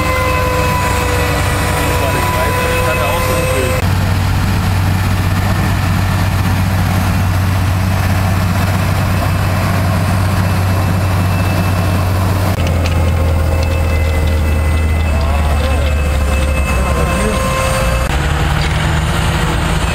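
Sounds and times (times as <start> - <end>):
tractor diesel engine drone: 0.0 - 19.9.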